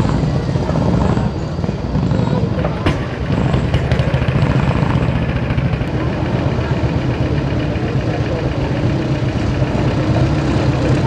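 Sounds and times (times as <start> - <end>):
motorcycle engines idling: 0.0 - 11.0
motorcycle passing at a crawl: 0.0 - 11.0.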